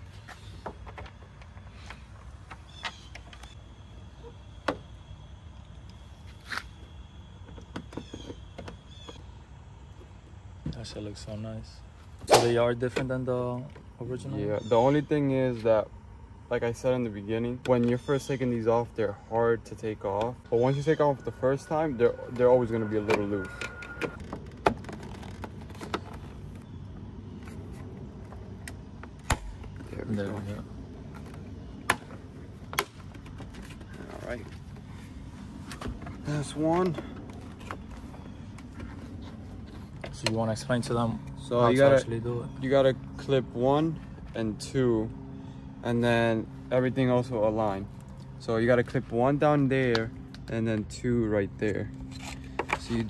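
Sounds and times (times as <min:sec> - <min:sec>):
low steady hum: 0:01.0 - 0:53.0.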